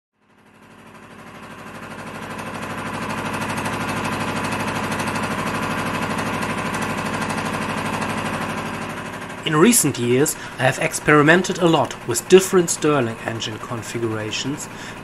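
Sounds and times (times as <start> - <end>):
stirling engine running: 0.4 - 15.0.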